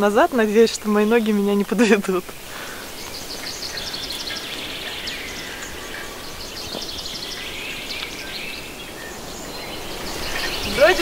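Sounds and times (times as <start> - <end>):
small birds singing: 0.0 - 11.0
steady background hiss: 0.0 - 11.0.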